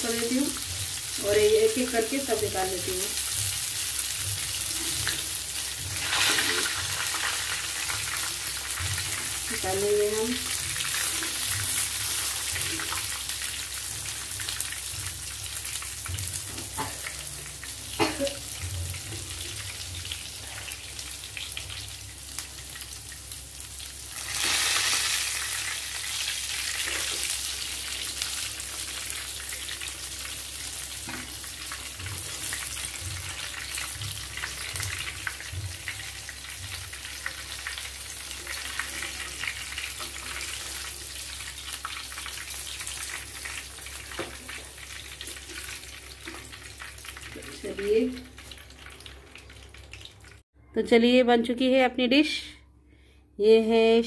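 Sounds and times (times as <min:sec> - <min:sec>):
kebabs sizzling in oil: 0:00.0 - 0:50.5.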